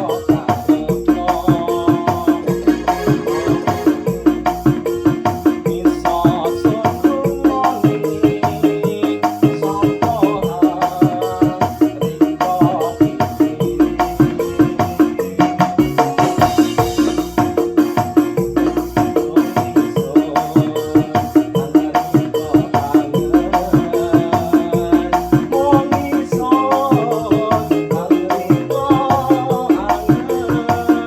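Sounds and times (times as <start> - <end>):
drum and shaker pattern: 0.0 - 31.0
keyboard melody: 0.0 - 31.0.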